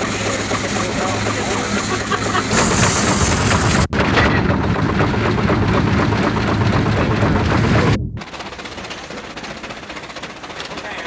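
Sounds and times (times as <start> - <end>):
steam traction engine running: 0.0 - 11.0.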